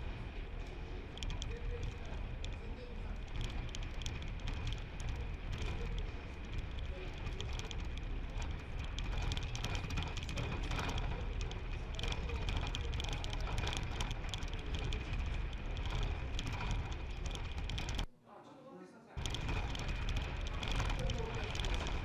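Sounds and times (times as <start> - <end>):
building rattling and clicking: 0.0 - 18.1, 19.2 - 22.0
low rumble: 0.0 - 18.1, 19.2 - 22.0.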